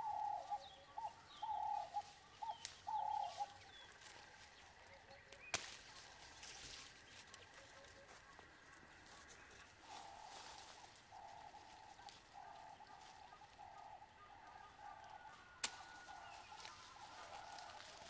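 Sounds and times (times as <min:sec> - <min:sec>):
faint bird calls: 0:00.0 - 0:18.0.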